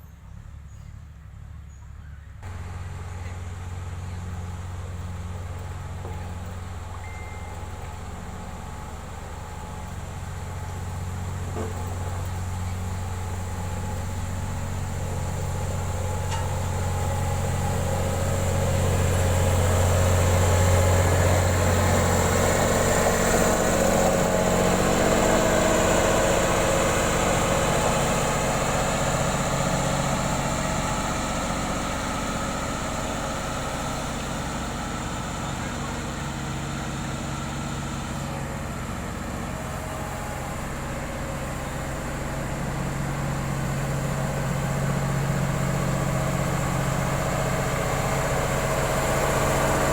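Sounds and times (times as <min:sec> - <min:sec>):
heavy construction equipment engine: 0:02.4 - 0:49.9.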